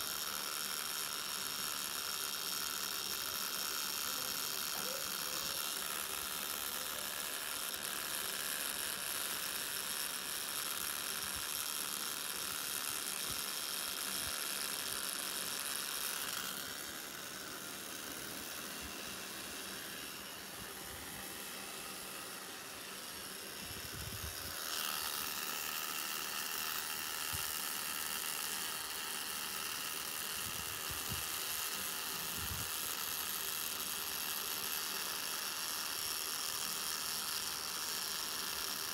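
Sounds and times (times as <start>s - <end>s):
tattoo machine buzzing: 0.0s - 38.9s.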